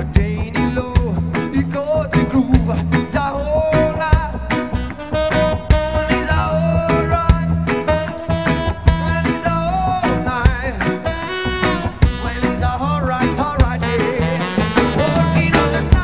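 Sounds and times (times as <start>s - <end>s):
live reggae band playing: 0.0s - 16.0s.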